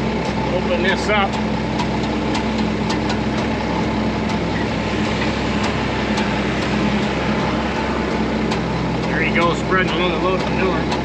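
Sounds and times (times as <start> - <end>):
light machinery ticking: 0.0 - 11.0
tractor engine running: 0.0 - 11.0.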